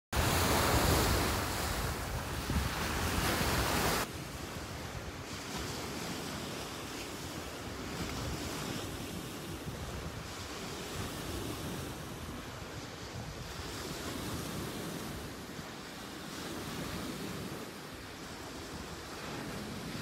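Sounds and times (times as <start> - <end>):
waves washing up pebble beach: 0.2 - 20.0
wind buffeting microphone: 0.2 - 20.0.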